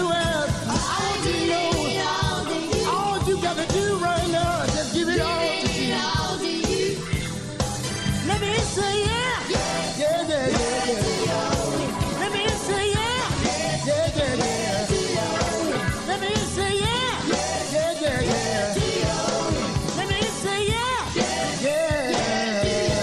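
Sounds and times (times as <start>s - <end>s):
male vocal group singing gospel: 0.0s - 7.1s, 8.8s - 23.0s.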